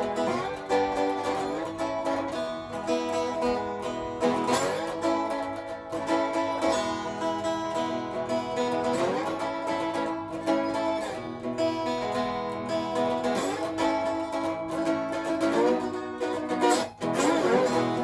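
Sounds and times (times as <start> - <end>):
slide guitar playing: 0.0 - 18.0.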